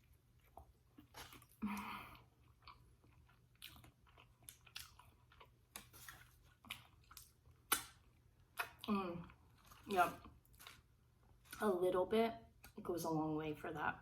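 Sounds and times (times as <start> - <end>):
person biting and chewing food: 0.0 - 11.6.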